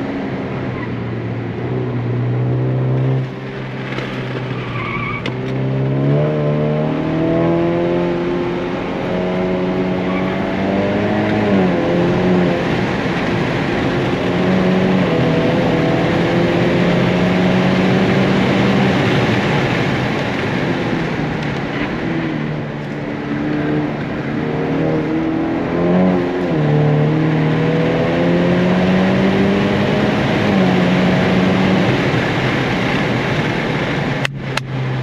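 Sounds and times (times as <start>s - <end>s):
car engine revving: 0.0s - 35.0s
tyre and road noise: 0.0s - 35.0s.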